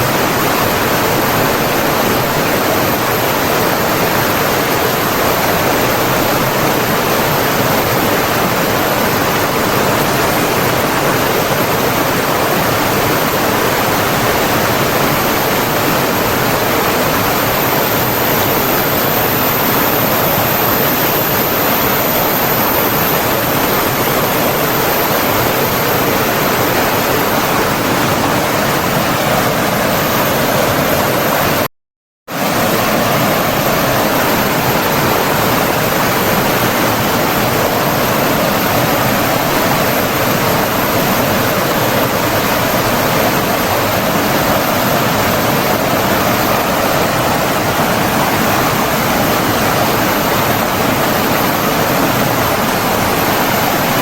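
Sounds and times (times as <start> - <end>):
rushing water: 0.0 - 31.7, 32.3 - 54.0.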